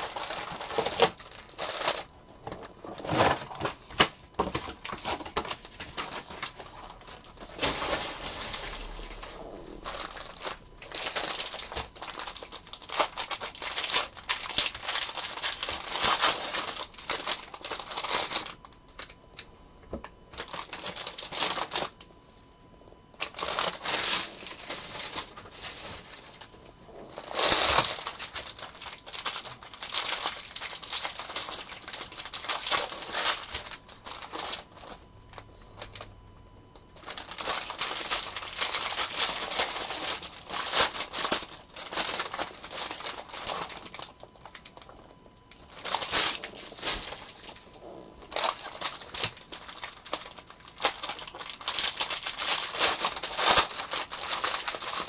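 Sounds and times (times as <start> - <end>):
wrappers crinkling and tearing: 0.0 - 19.5, 20.1 - 36.2, 36.9 - 55.0.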